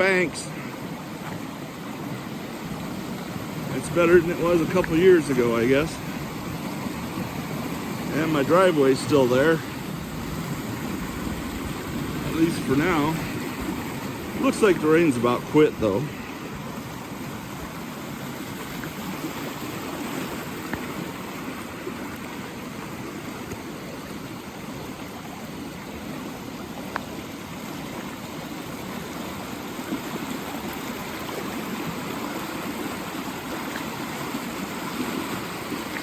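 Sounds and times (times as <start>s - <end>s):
creek rushing: 0.0s - 36.0s.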